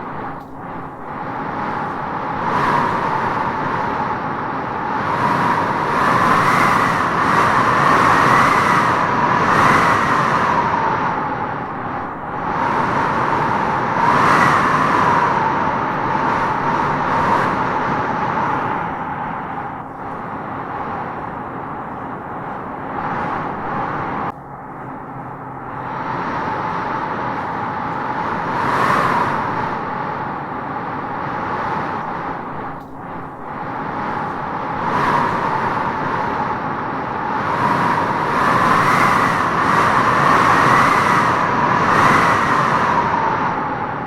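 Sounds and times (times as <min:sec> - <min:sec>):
wind howling through trees: 0:00.0 - 0:44.0.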